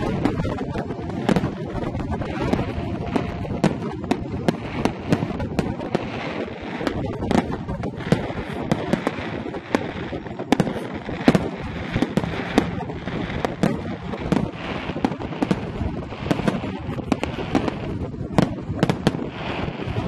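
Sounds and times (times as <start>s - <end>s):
crackling firework stars: 0.0s - 20.0s
firework shells bursting: 0.0s - 20.0s
low rumble: 0.0s - 20.0s.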